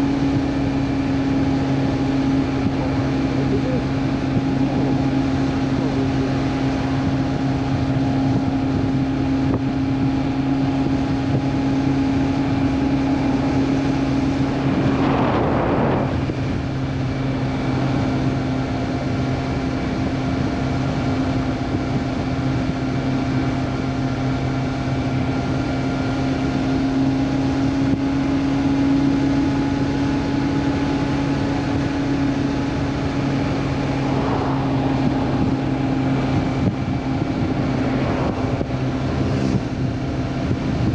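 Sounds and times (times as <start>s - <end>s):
motorcycle engine cruising: 0.0s - 40.9s
wind on microphone: 0.0s - 40.9s.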